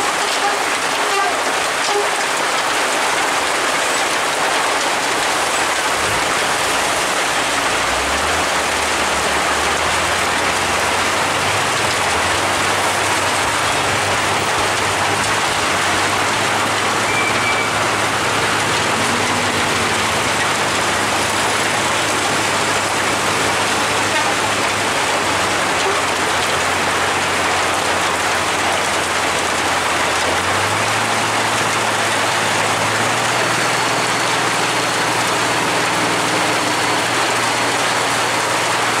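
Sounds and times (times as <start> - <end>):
heavy rain falling: 0.0 - 39.0
truck engine droning: 0.0 - 39.0.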